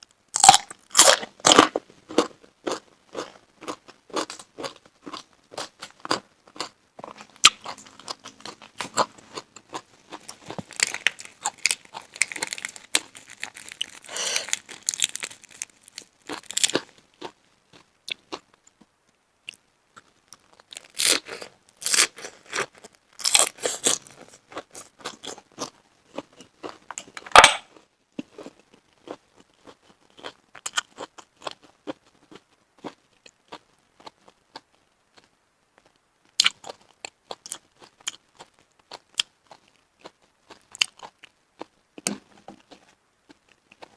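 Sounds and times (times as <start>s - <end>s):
chewing shellfish: 0.4s - 18.6s, 19.4s - 43.9s.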